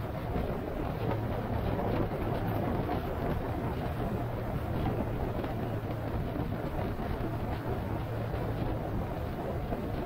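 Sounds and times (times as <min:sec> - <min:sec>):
vehicle running noise: 0:00.0 - 0:10.0
wind on microphone: 0:00.0 - 0:10.0.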